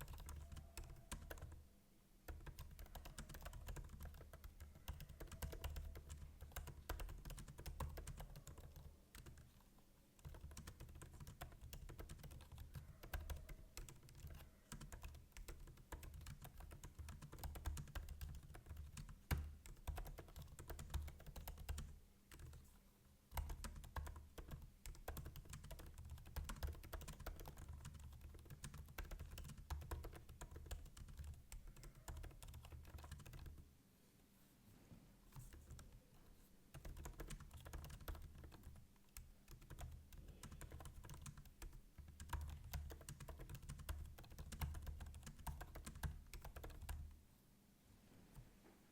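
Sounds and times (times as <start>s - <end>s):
typing on laptop keyboard: 0.0s - 1.6s, 2.3s - 22.7s, 23.3s - 33.6s, 35.4s - 47.2s.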